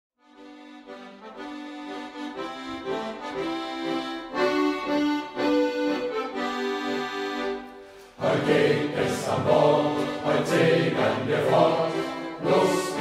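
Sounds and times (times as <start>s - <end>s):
accordion playing: 0.2s - 13.0s.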